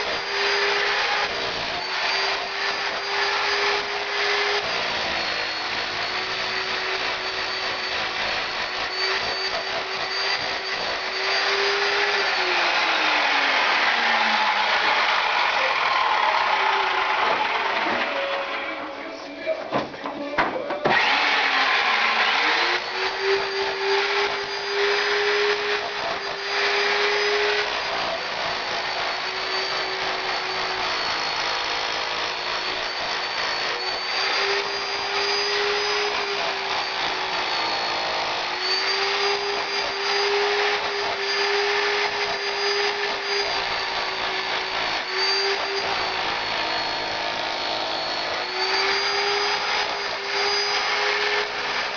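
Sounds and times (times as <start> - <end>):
power tool stripping plaster: 0.0 - 18.9, 19.6 - 51.9.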